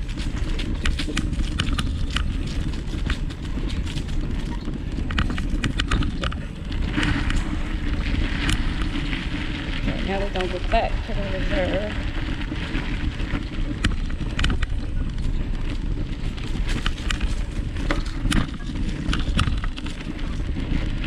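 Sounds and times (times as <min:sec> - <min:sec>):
bicycle rolling on dirt: 0:00.0 - 0:21.0
bike rattles and clicks: 0:00.0 - 0:21.0
wind on microphone: 0:00.0 - 0:21.0.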